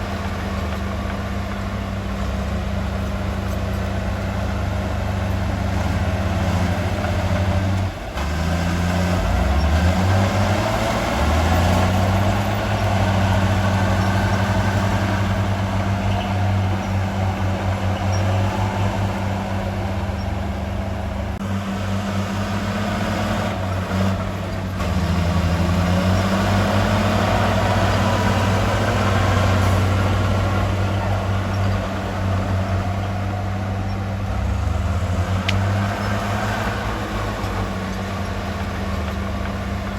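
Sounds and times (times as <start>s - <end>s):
heavy diesel engine revving: 0.0s - 39.9s.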